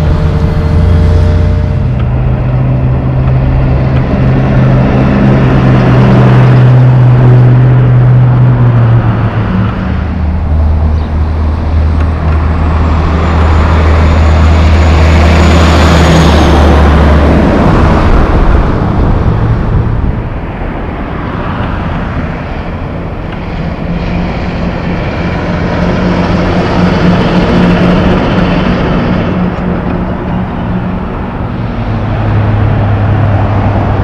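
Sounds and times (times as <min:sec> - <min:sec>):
diesel truck engine drone: 0:00.0 - 0:34.0
tyre and road noise: 0:00.0 - 0:34.0.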